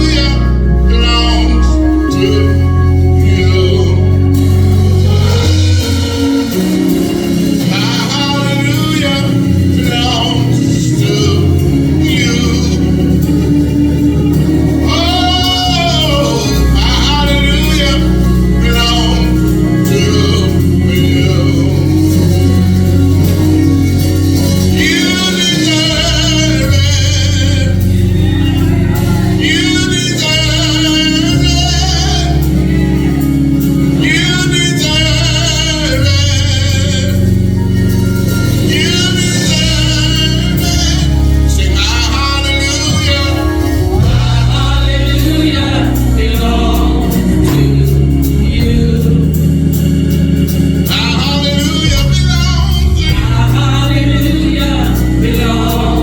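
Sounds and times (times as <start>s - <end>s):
band accompaniment with bass line: 0.0s - 56.0s
singers holding wavering phrases: 0.0s - 56.0s.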